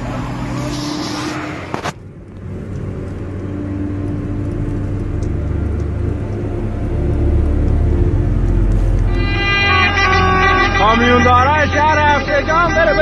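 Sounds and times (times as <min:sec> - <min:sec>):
low engine rumble: 0:00.0 - 0:13.0
vehicle engines running: 0:00.0 - 0:13.0.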